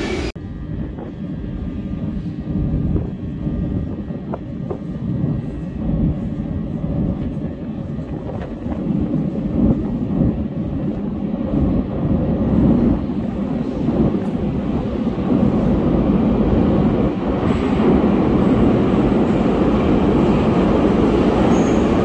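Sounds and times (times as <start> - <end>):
metro train rumbling in tunnel: 0.0 - 22.0.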